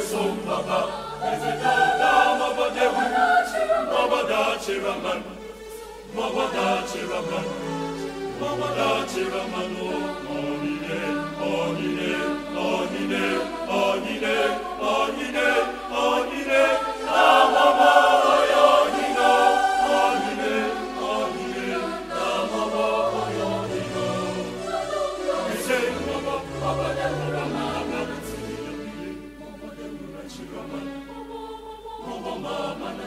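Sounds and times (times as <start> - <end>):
mixed choir singing: 0.0 - 33.0.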